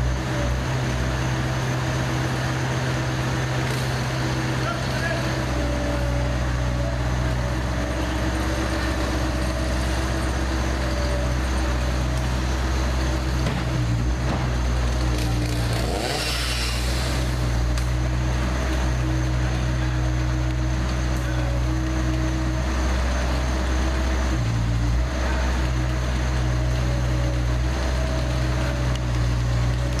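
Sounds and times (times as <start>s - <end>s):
large engine humming: 0.0s - 30.0s.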